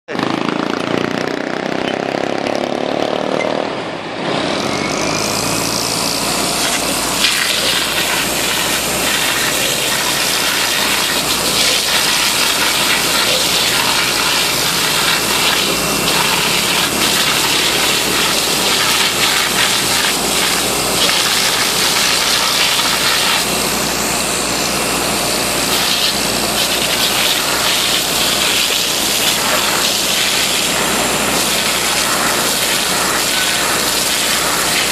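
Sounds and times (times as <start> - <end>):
pump engine running: 0.1 - 3.0, 4.2 - 34.9
high-pressure water jet hissing: 4.6 - 34.9.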